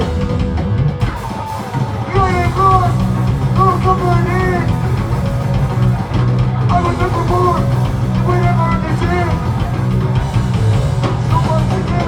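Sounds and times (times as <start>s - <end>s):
live heavy rock band: 0.0s - 12.0s
bending melodic lead line: 1.0s - 12.0s.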